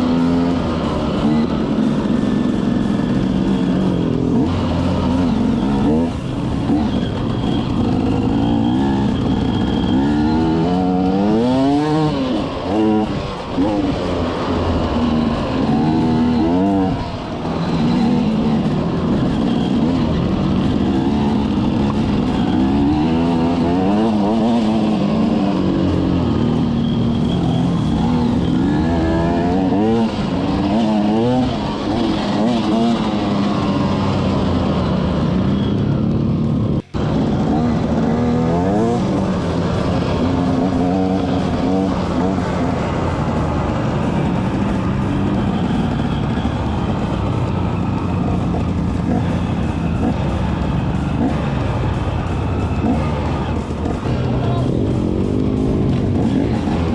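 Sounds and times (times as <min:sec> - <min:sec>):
off-road vehicle engine revving: 0:00.0 - 0:56.9.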